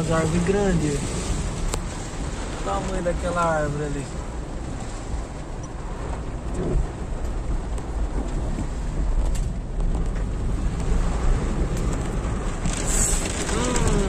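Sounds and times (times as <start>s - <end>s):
heavy rain and wind on car: 0.0s - 14.0s.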